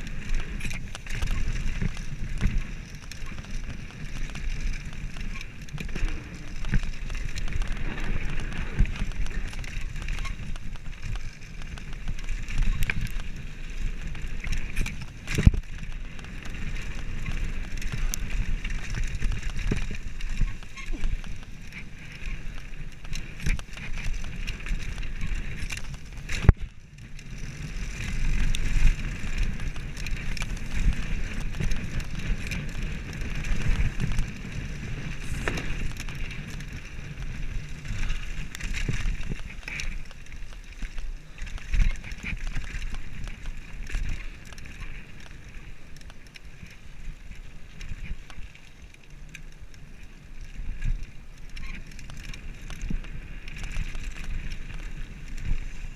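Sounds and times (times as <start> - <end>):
wind on microphone: 0.0 - 48.9
bike frame rattling: 0.0 - 55.9
bike tyres crunching on gravel: 0.0 - 55.9.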